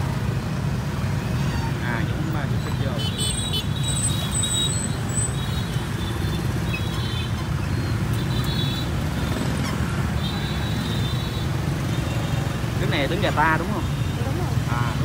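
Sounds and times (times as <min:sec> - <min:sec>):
street traffic rumbling: 0:00.0 - 0:15.0.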